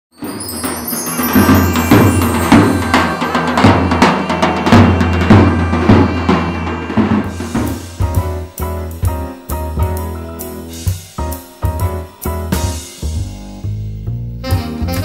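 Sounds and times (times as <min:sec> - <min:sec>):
drum kit: 0:00.1 - 0:15.0
bass line: 0:01.4 - 0:15.0.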